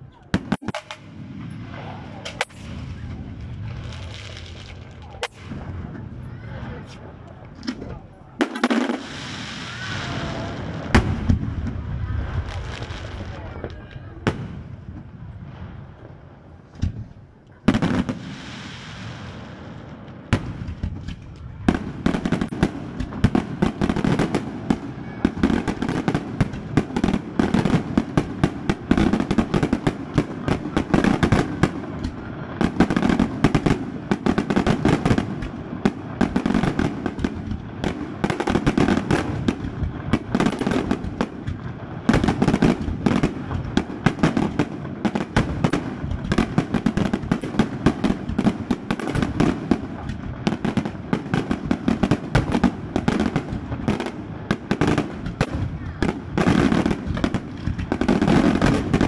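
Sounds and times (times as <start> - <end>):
firework bangs and crackles: 0.0 - 59.0.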